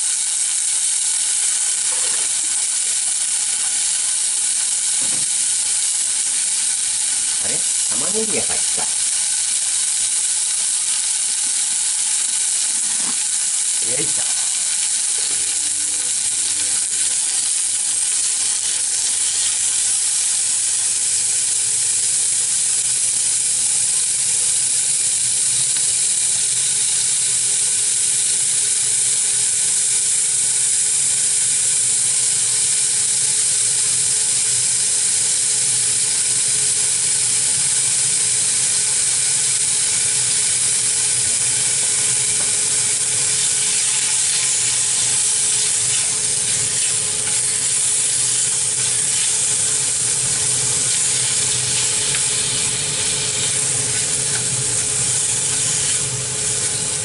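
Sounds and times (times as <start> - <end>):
vegetables sizzling in a saucepan: 0.0 - 57.0.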